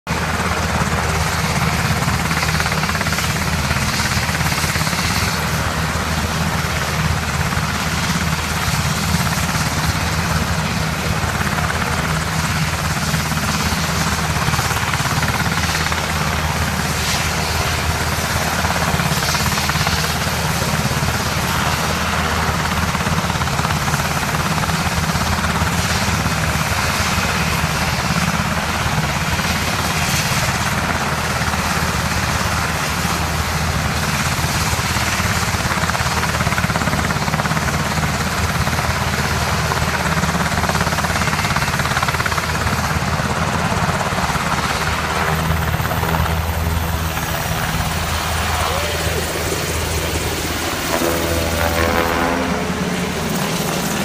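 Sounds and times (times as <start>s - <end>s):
helicopter engine noise: 0.1s - 54.0s
helicopter main rotor beat: 0.1s - 54.0s.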